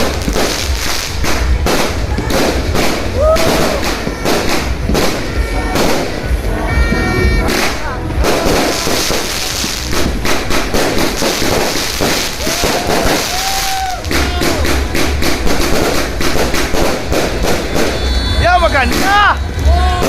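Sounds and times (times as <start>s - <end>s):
fireworks crackling and banging: 0.0s - 20.0s
whistling fireworks: 0.0s - 20.0s.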